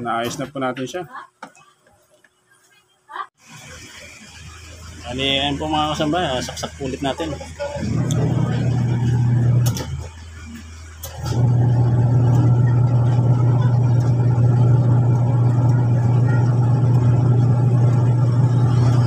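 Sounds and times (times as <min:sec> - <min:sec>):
washing machine motor humming: 0:03.4 - 0:19.0.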